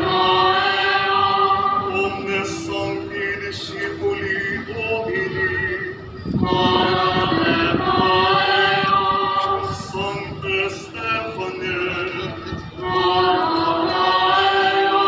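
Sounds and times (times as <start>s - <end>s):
choir singing slow chant: 0.0s - 15.0s.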